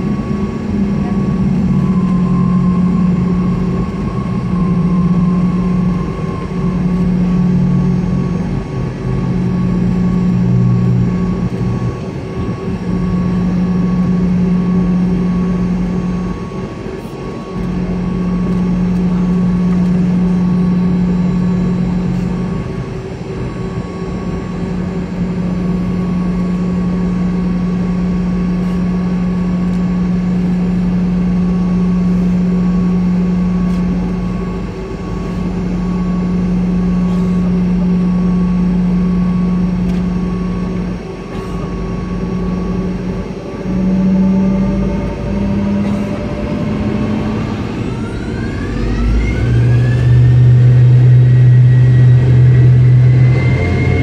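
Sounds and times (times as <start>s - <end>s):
jet engines droning: 0.0s - 54.0s.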